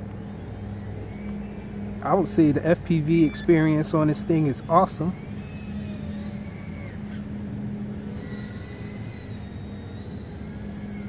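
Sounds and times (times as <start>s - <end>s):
drone motors whining: 0.0s - 11.0s
steady low hum: 0.0s - 11.0s.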